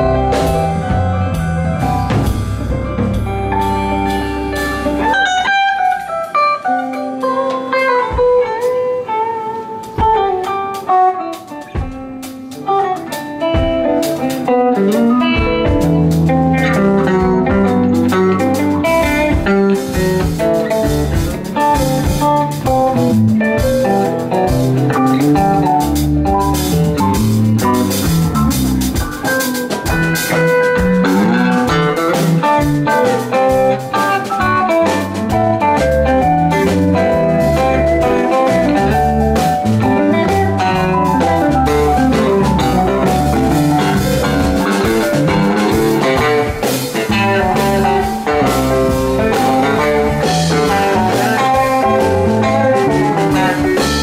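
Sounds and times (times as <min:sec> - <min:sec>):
low end bass: 0:00.0 - 0:05.3, 0:15.4 - 0:29.3, 0:30.0 - 0:54.0
drum kit: 0:00.0 - 0:54.0
electric guitar lead: 0:00.0 - 0:54.0.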